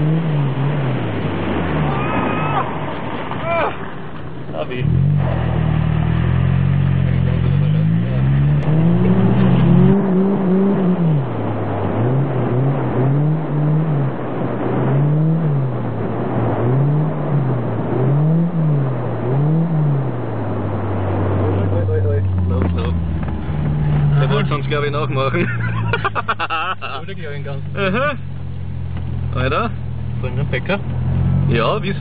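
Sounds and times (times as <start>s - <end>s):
steady rushing noise: 0.0s - 27.5s
car engine revving: 0.0s - 32.0s.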